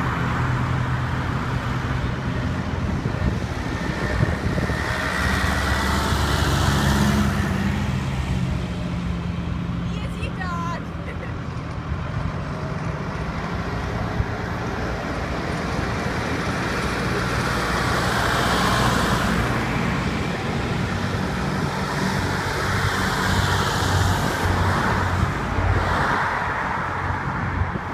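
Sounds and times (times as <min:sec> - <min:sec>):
tractor engines running: 0:00.0 - 0:27.9.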